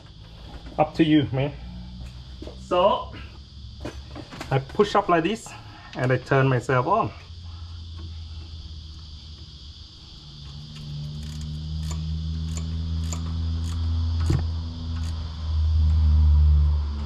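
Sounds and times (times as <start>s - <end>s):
motor vehicle engine hum: 0.0s - 5.8s, 7.1s - 17.0s.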